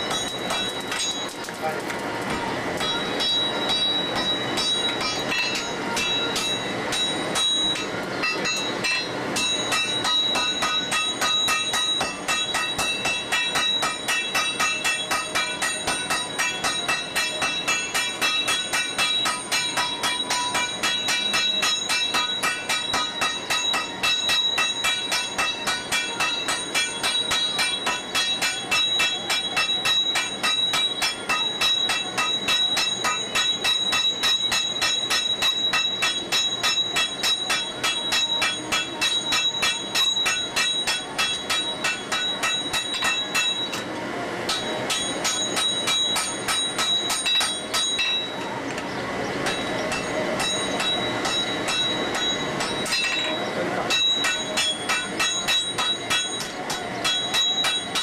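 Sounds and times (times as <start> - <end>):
hammer striking iron on anvil: 0.0 - 1.6, 2.3 - 58.0.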